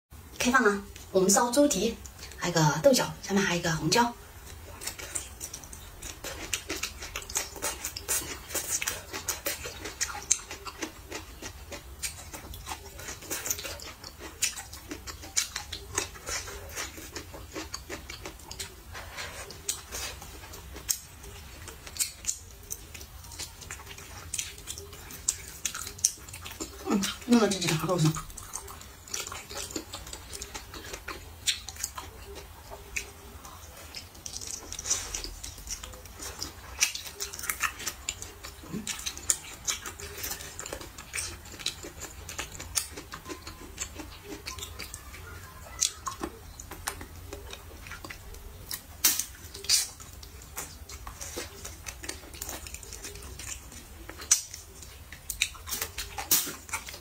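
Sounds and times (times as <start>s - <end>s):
person chewing with smacks: 1.8s - 2.4s, 4.4s - 57.0s.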